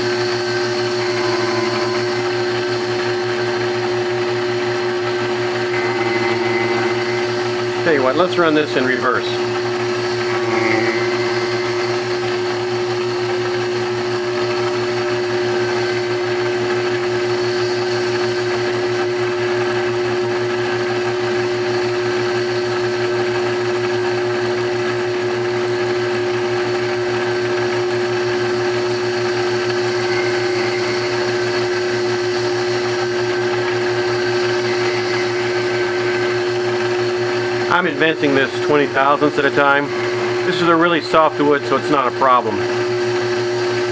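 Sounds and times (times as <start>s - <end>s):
electric motor humming: 0.0s - 43.9s.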